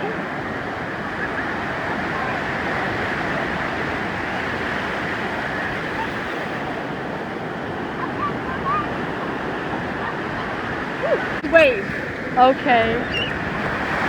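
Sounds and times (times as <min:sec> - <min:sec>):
ocean surf breaking on a beach: 0:00.0 - 0:14.0.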